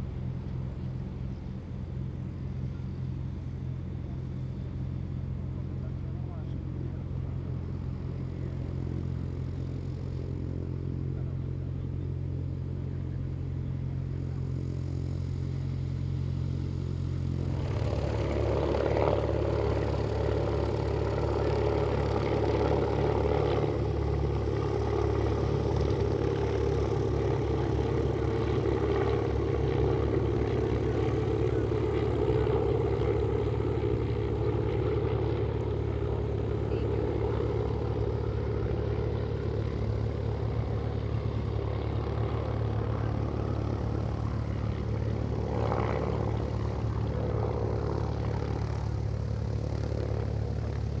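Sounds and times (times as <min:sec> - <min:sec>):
piston aircraft engine running: 0:00.0 - 0:51.0.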